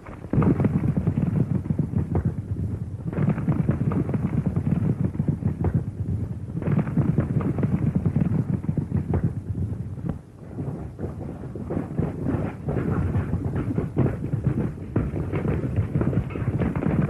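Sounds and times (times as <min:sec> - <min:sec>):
horse hoofbeats galloping: 0:00.0 - 0:17.0.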